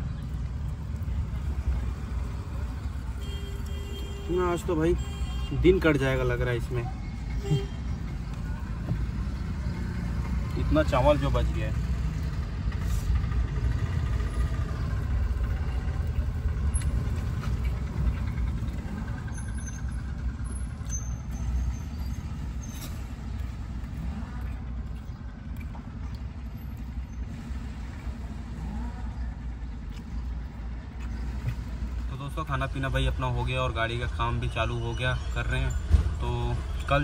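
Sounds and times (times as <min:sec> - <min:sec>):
traffic rumble: 0:00.0 - 0:37.0.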